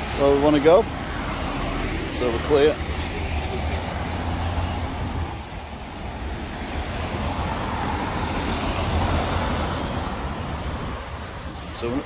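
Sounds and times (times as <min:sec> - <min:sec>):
vehicles passing close by: 0:00.0 - 0:12.0.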